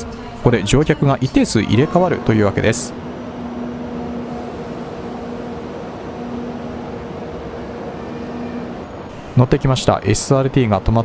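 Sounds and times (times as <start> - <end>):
train electrical hum: 0.0 - 11.0.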